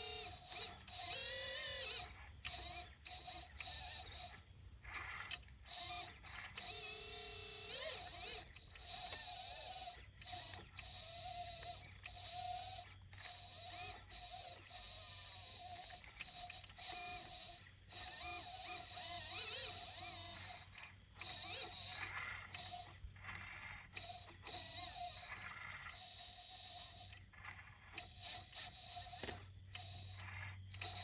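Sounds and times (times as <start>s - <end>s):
hydraulic pump whining: 0.0s - 31.0s.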